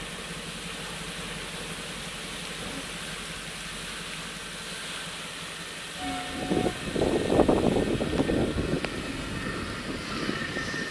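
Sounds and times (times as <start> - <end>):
truck engine running low: 0.0 - 10.9.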